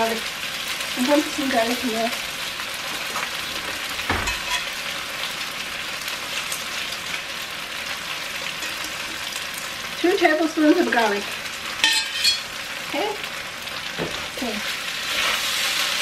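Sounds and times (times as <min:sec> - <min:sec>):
rice sizzling in hot oil: 0:00.0 - 0:16.0.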